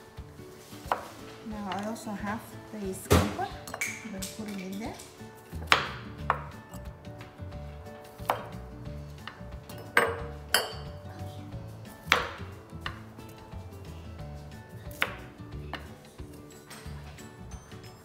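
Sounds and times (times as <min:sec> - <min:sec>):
soft background music: 0:00.0 - 0:18.0
knocks and clinks of kitchen work: 0:00.8 - 0:11.1, 0:12.0 - 0:13.5, 0:14.9 - 0:18.0.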